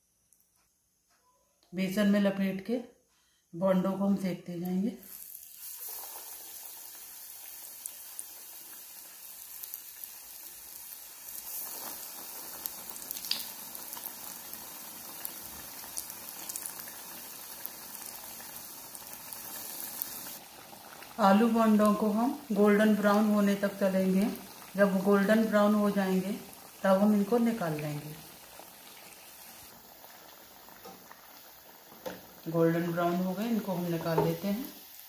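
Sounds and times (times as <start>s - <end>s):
food deep-frying in oil: 5.0s - 35.0s.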